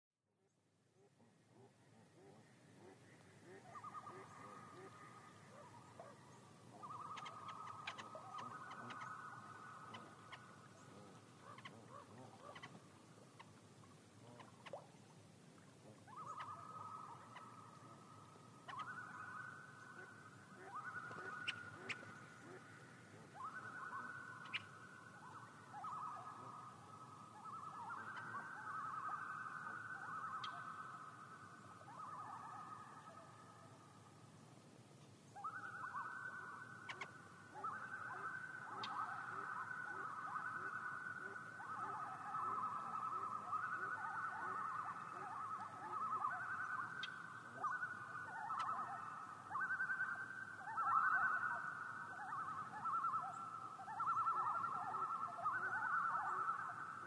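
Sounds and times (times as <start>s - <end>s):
faint ticks and chirps: 0.4s - 57.0s
loon calling: 1.0s - 15.0s, 15.6s - 33.8s, 35.4s - 57.0s.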